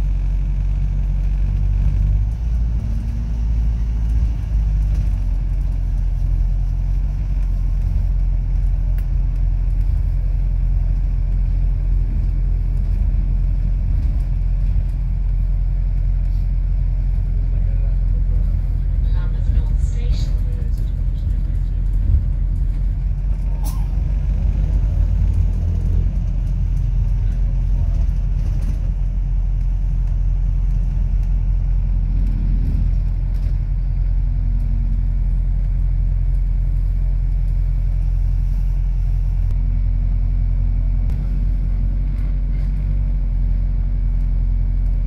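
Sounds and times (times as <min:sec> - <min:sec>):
bus engine rumble: 0:00.0 - 0:45.0.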